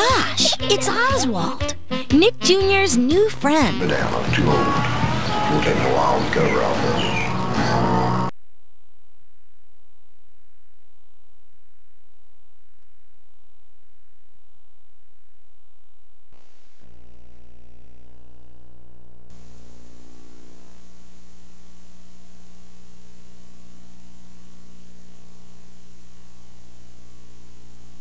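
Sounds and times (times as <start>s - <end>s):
electrical hum and buzz: 0.0s - 28.0s.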